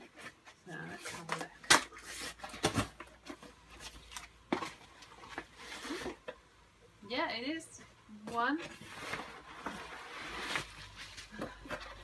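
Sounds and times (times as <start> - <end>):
cardboard box rustling and scraping: 0.0 - 6.3, 8.4 - 12.0.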